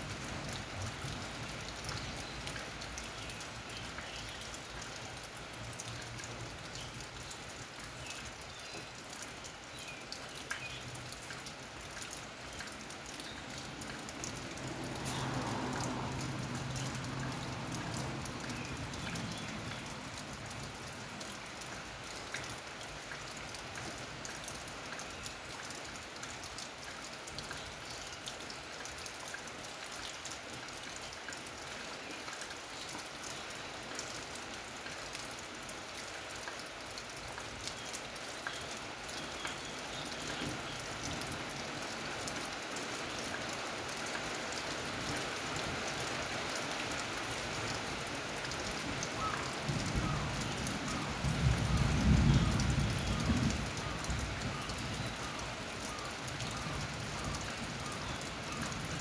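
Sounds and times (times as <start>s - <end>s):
rain drops ticking on hard surface: 0.0s - 59.0s.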